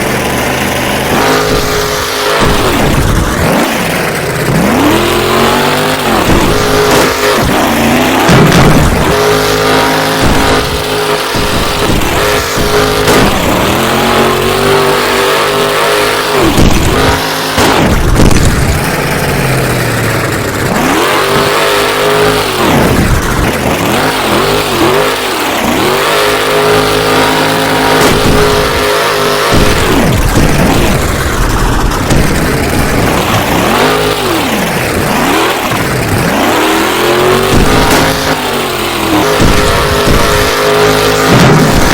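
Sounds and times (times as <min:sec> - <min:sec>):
truck engine revving hard: 0:00.0 - 0:41.9.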